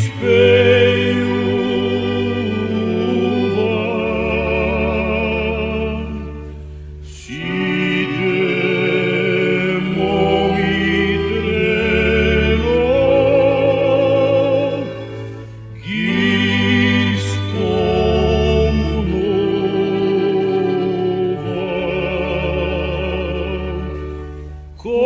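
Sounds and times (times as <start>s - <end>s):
person singing with vibrato: 0.0s - 24.0s
low sustained notes: 0.0s - 25.0s.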